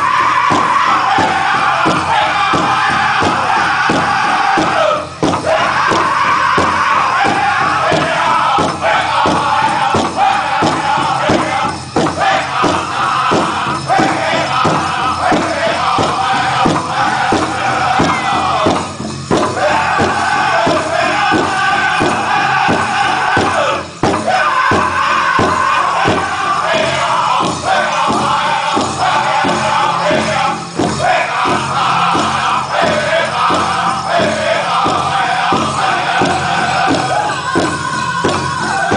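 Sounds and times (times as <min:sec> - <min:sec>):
group singing in unison: 0:00.0 - 0:38.9
steady drumbeat: 0:00.0 - 0:38.9.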